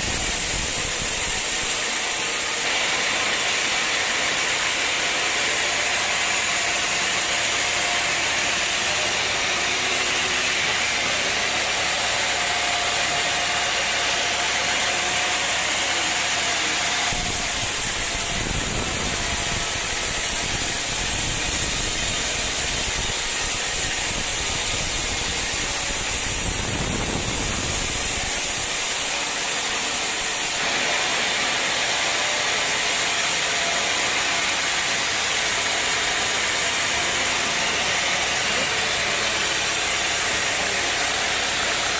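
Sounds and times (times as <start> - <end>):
sawmill machinery hissing: 0.0 - 41.9.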